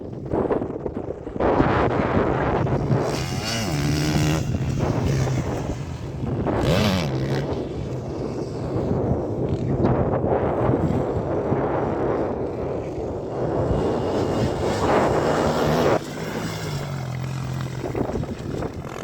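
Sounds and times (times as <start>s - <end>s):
wind buffeting microphone: 0.0s - 19.0s
dirt bike engines revving past: 1.4s - 19.0s.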